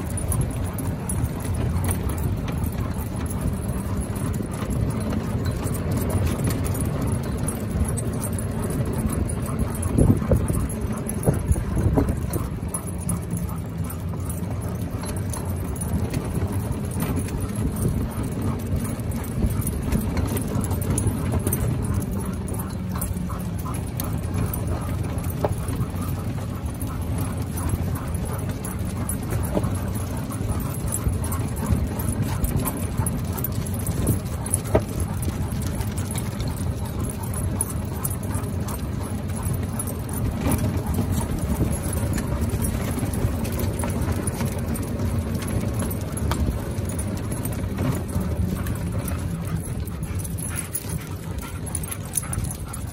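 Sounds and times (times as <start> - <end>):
collar tags jingling: 0.0 - 52.9
dog paws pattering on pavement: 0.0 - 52.9.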